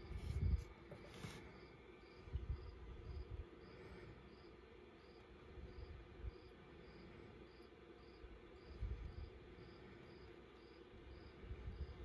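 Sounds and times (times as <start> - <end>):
cricket chirping: 1.5 - 12.0.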